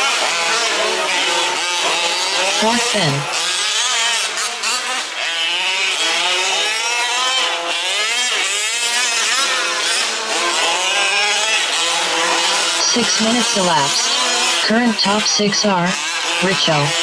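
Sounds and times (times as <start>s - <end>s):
small two-stroke engines revving: 0.0s - 17.0s.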